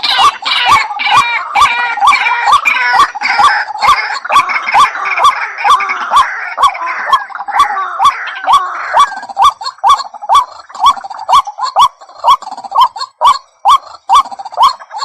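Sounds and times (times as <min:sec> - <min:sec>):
harsh chattering bird calls: 0:00.0 - 0:15.0.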